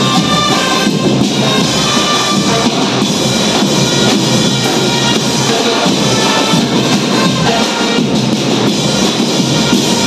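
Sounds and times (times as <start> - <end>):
percussion band playing: 0.0 - 10.0.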